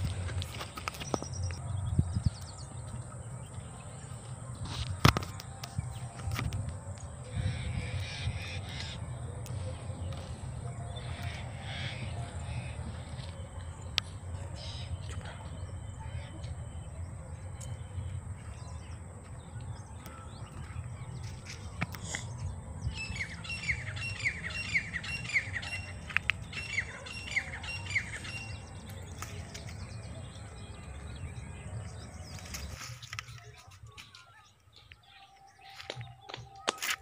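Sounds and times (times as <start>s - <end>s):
steady low rumble: 0.0s - 32.8s.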